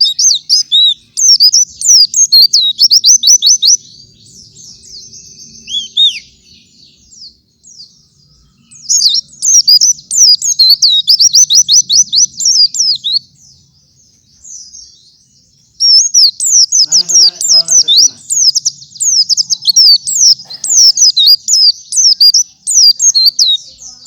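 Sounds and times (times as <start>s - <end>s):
bird twittering song: 0.0s - 24.0s.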